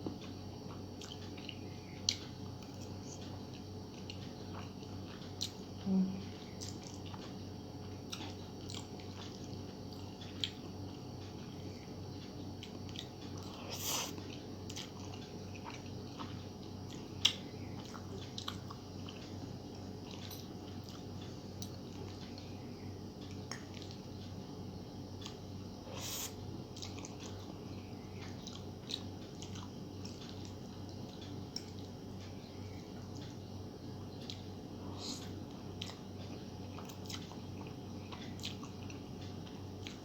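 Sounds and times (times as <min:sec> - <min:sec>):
steady low hum: 0:00.0 - 0:40.0
person chewing noodles: 0:00.1 - 0:24.4, 0:25.1 - 0:40.0.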